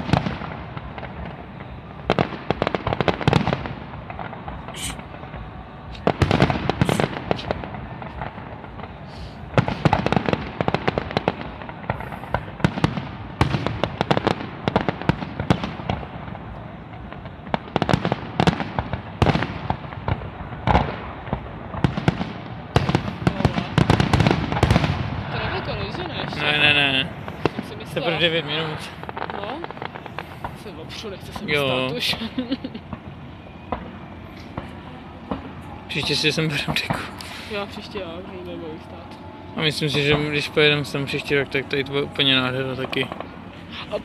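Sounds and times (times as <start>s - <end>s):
fireworks bursting with bangs: 0.0s - 44.0s
fireworks crackle: 0.0s - 44.0s.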